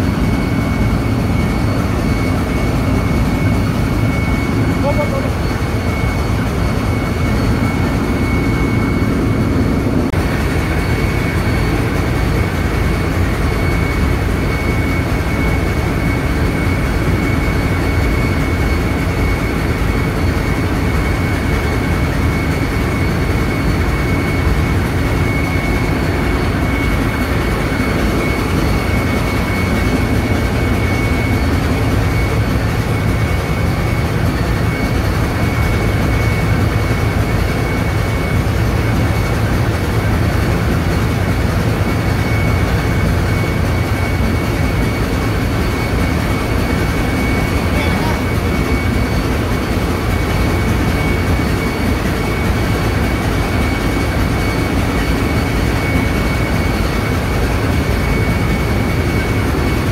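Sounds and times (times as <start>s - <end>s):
engine room machinery rumble: 0.0s - 59.9s
high machinery whine: 0.0s - 59.9s.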